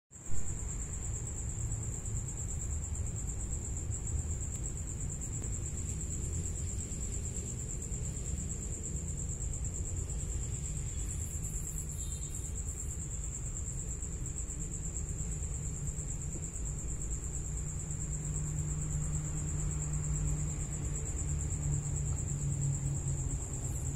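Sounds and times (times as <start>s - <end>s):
low background rumble: 0.4s - 23.9s.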